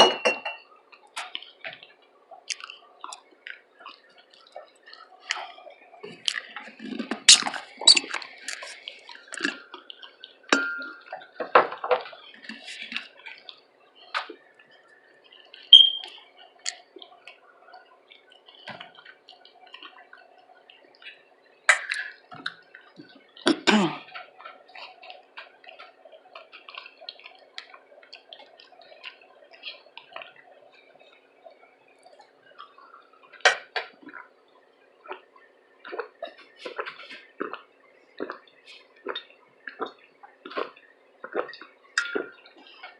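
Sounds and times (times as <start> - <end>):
faint steady hum: 0.0 - 42.9
lip smacks and mouth clicks: 0.9 - 10.4, 15.0 - 17.4, 18.1 - 34.3, 35.1 - 42.9
person chewing: 0.9 - 11.4, 12.0 - 31.2, 32.0 - 34.3, 35.0 - 42.9.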